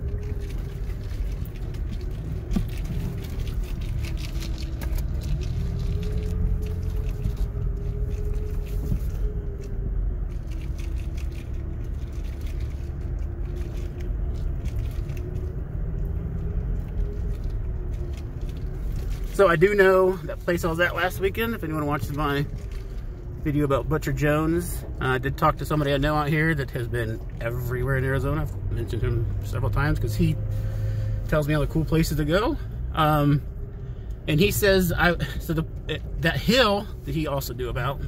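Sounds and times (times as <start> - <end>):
tyres rolling over gravel: 0.0 - 33.6, 34.3 - 38.0
truck engine rumble with whine: 0.0 - 38.0.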